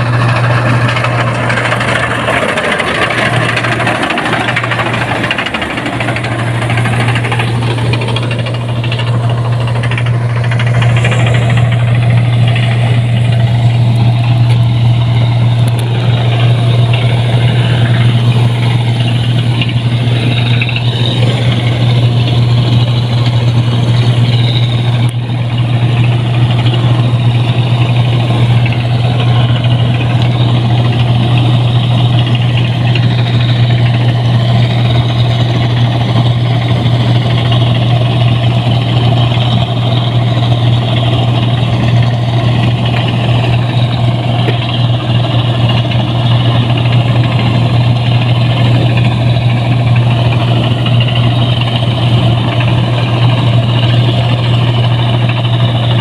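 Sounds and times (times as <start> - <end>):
cutting gear clattering: 0.0 - 56.0
harvester engine drone: 0.0 - 56.0.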